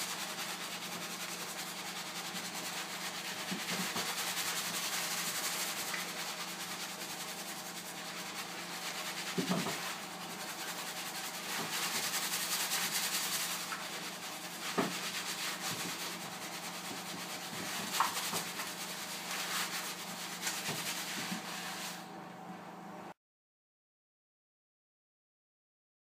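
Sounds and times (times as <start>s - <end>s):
fingers scrubbing wet hair: 0.0s - 21.9s.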